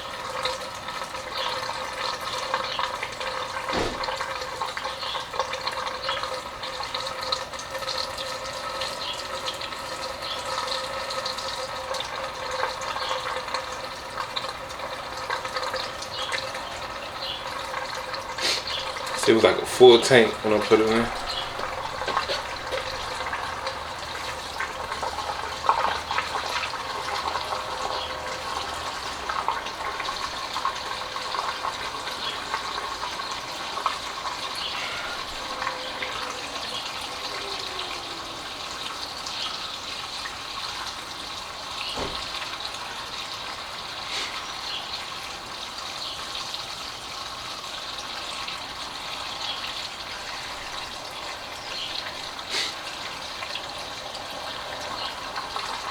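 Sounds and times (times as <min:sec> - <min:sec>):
fuel pouring into tank: 0:00.0 - 0:55.9.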